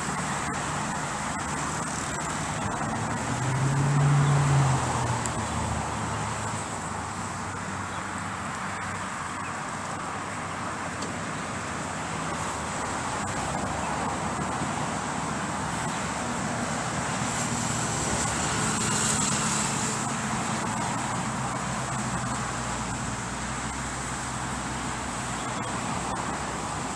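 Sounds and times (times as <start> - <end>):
road traffic hum: 0.0 - 26.9.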